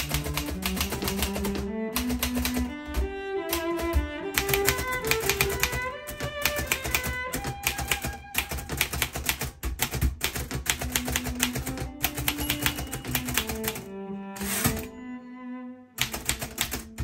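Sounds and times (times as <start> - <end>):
background music: 0.0 - 9.1, 10.5 - 17.0
manual typewriter keys clacking: 0.0 - 14.9, 16.0 - 17.0.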